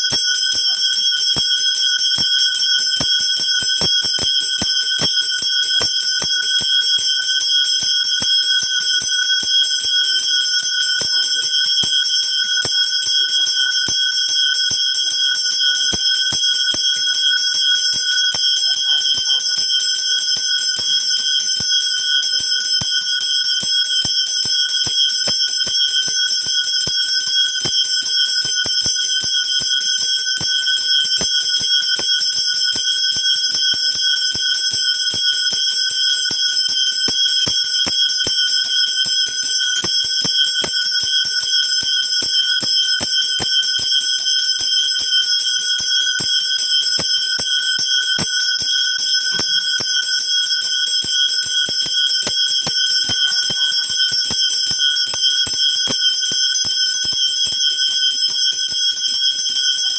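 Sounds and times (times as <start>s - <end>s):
brass hand bell ringing: 0.0s - 59.9s.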